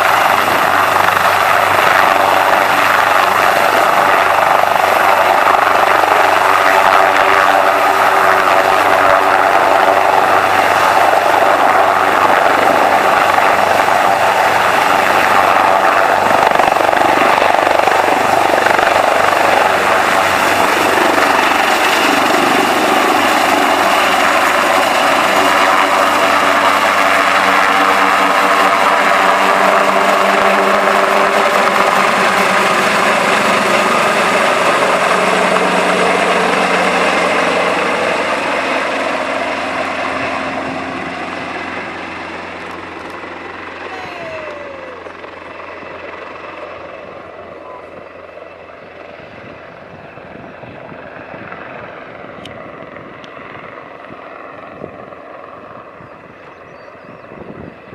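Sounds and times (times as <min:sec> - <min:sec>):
helicopter turbine and rotor: 0:00.0 - 0:57.9.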